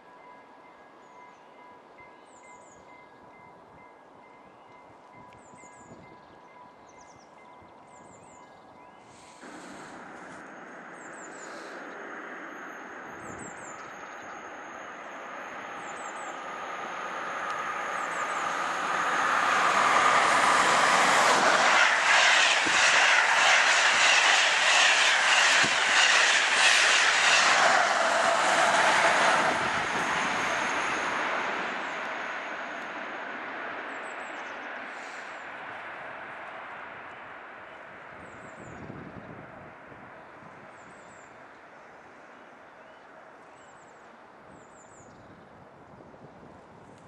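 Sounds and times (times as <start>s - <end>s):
passenger train passing: 0.0s - 43.4s.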